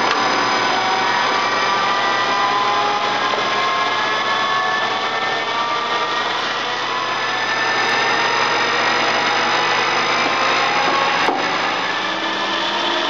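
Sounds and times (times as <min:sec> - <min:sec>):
gearing whine rising: 0:00.0 - 0:13.0
lathe machining whir: 0:00.0 - 0:13.0.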